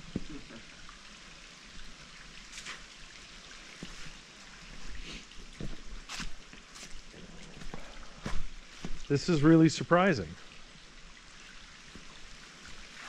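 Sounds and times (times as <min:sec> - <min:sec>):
stream running water: 0:00.0 - 0:13.0.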